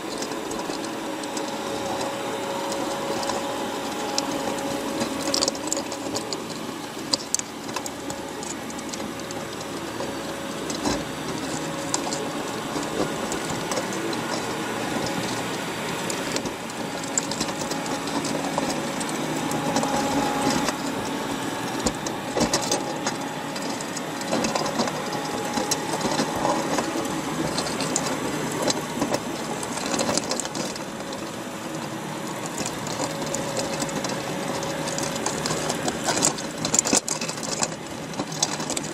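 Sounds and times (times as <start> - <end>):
underwater clicks and crackles: 0.0 - 38.9
underwater mechanical hum: 0.0 - 38.9.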